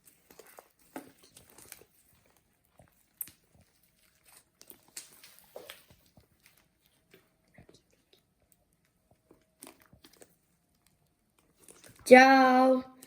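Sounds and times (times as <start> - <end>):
slime squishing by hand: 0.0 - 12.4.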